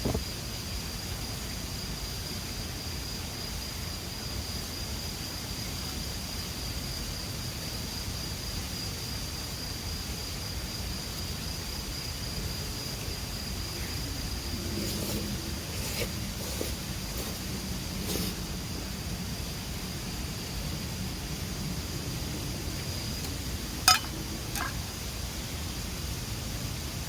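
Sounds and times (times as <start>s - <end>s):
high-pitched insect trill: 0.2s - 26.0s.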